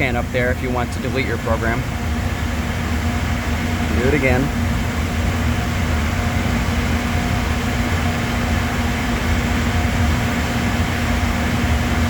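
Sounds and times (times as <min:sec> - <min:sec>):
workshop machinery drone: 0:00.0 - 0:12.0.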